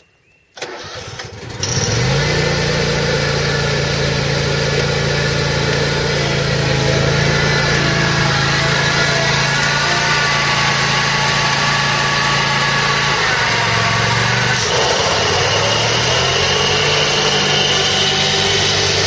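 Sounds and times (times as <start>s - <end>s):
mower engine running: 0.6s - 19.0s.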